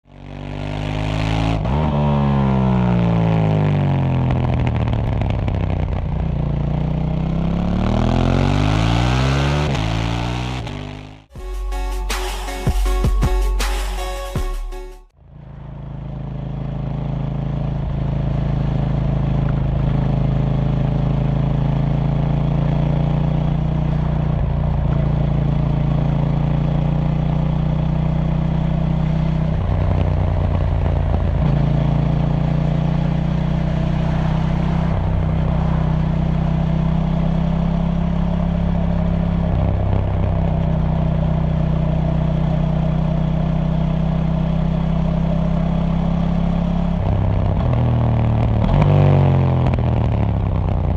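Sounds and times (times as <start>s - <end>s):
motorcycle engine running: 0.0s - 11.4s, 15.2s - 50.9s.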